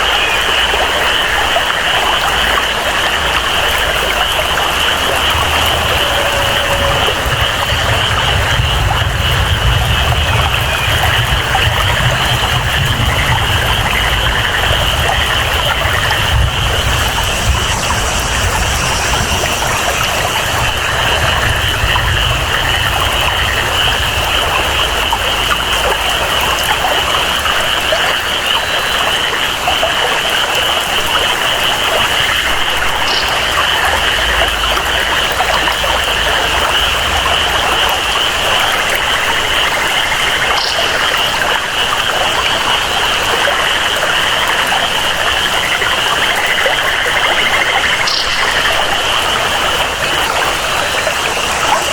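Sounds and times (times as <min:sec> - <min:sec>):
flowing water: 0:00.0 - 0:51.9
high-pitched frog chorus: 0:00.0 - 0:51.9
steady rain: 0:00.0 - 0:51.9.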